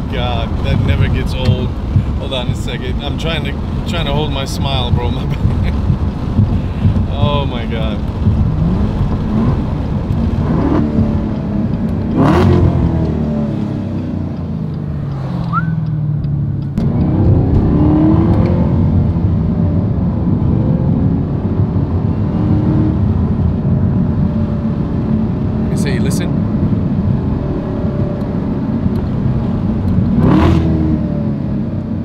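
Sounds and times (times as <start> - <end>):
exhaust crackles: 0.0 - 31.9
car engine revving: 0.0 - 32.0.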